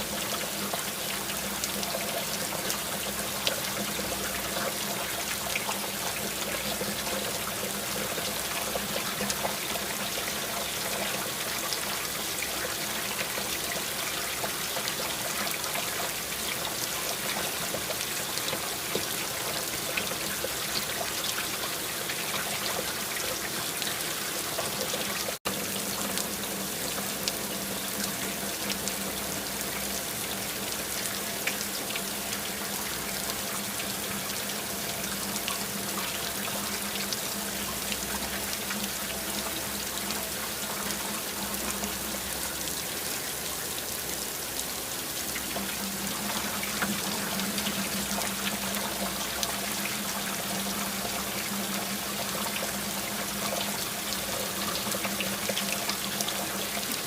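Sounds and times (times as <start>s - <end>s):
rain falling: 0.0s - 57.0s
trickling running water: 0.0s - 57.0s.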